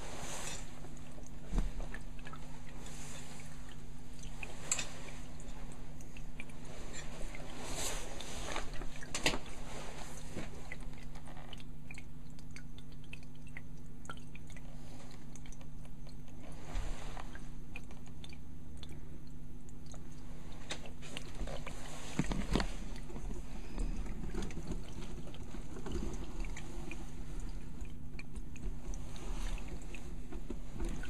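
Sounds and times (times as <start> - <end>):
aquarium hum: 0.0 - 31.0
water clicks and crackles: 0.0 - 31.0.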